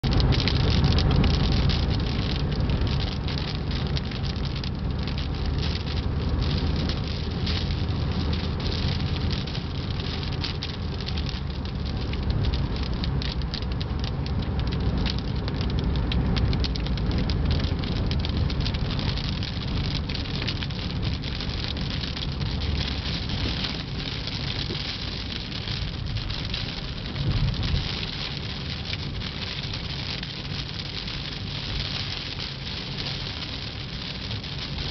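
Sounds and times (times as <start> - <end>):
low road rumble: 0.0 - 34.9
rain pattering on windshield: 0.0 - 34.9.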